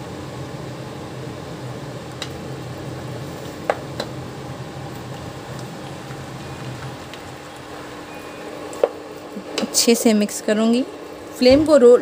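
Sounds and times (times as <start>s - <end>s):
induction cooktop electrical hum: 0.0s - 12.0s.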